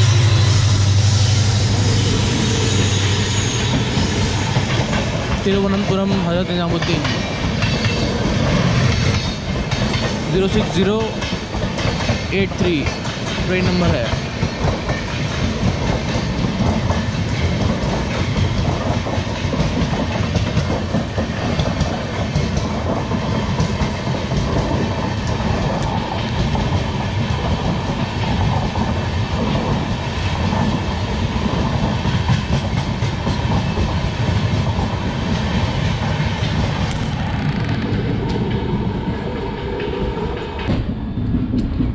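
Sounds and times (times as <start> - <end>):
train wheels rumbling on track: 0.0 - 41.9.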